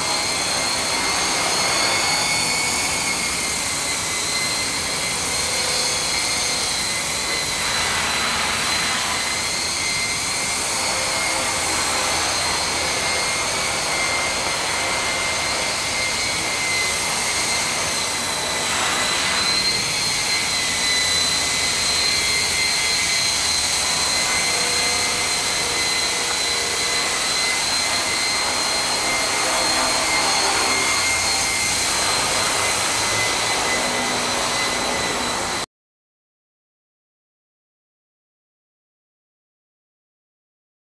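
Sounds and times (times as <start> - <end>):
rc helicopter motor whine: 0.0 - 35.7.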